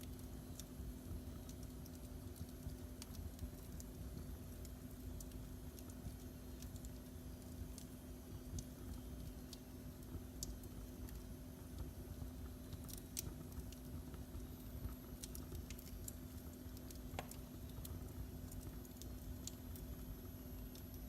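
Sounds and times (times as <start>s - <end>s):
low steady rumble of fire: 0.0s - 21.0s
wood fire crackling: 0.0s - 21.0s.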